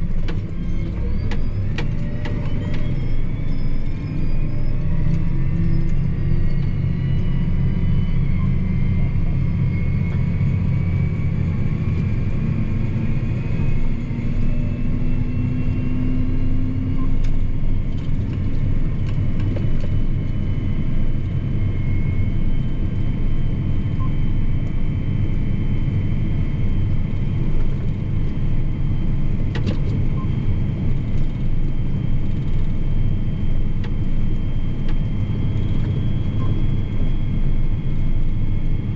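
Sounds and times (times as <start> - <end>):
tractor engine drone from cab: 0.0 - 38.9
faint high whine: 0.6 - 29.4, 30.0 - 38.9.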